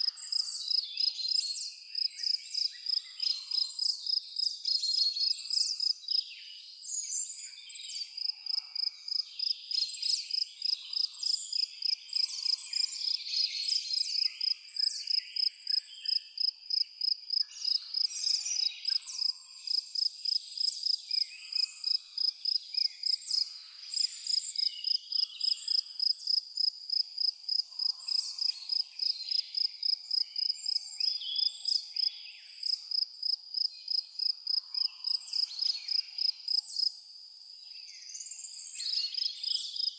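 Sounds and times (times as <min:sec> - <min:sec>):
cricket chirping: 0:00.0 - 0:06.6, 0:08.2 - 0:39.9
songbirds calling and twittering: 0:00.0 - 0:39.9.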